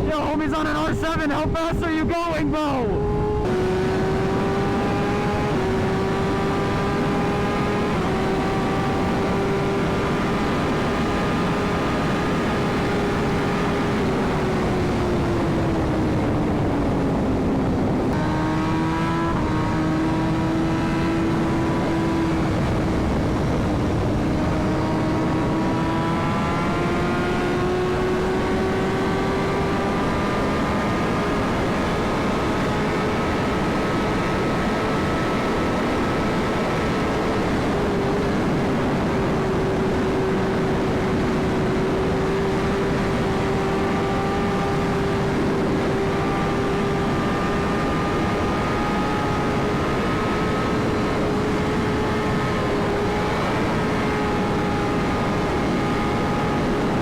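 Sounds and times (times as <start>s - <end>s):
wind rush on microphone: 0.0s - 57.0s
motorcycle engine at high revs: 2.8s - 57.0s.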